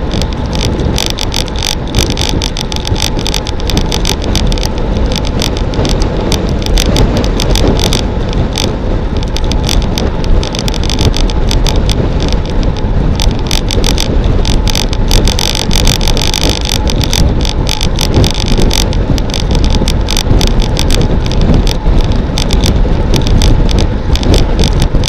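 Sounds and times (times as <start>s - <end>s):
crackle of clicks and rattles: 0.0s - 25.0s
wind rushing over microphone: 0.0s - 25.0s.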